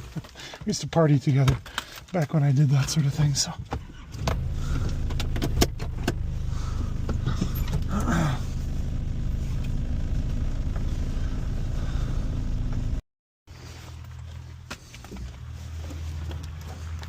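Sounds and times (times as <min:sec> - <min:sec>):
vehicle engine humming: 0:03.3 - 0:17.0.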